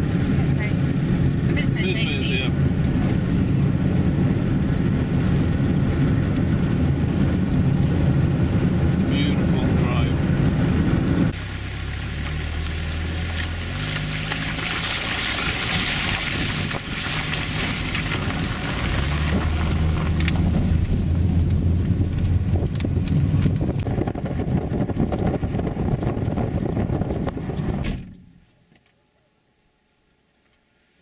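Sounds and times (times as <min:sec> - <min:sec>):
car engine running: 0:00.0 - 0:28.4
road and wind noise: 0:00.0 - 0:28.9.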